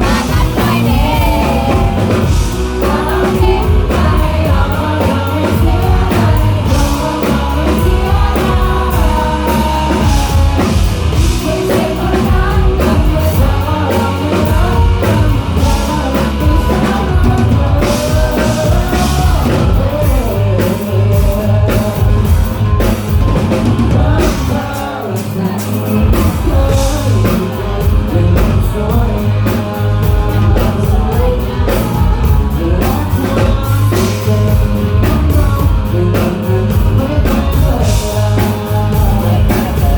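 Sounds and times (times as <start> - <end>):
bass guitar: 0.0 - 39.9
drum kit: 0.0 - 39.9
electric guitar: 0.0 - 39.9
person singing: 0.0 - 39.9
rock band playing live: 0.0 - 39.9.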